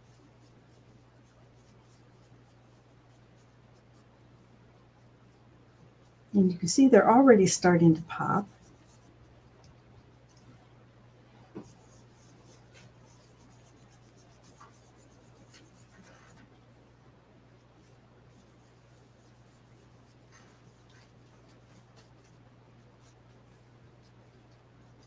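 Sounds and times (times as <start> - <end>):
brush scratching on cardstock: 0.0 - 4.1, 6.8 - 10.6, 11.4 - 16.6, 17.6 - 25.0
steady low hum: 0.0 - 25.0.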